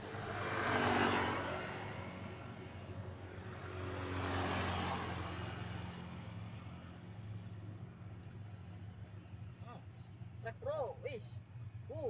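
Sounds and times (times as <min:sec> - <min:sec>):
motor vehicle passing: 0:00.0 - 0:12.0.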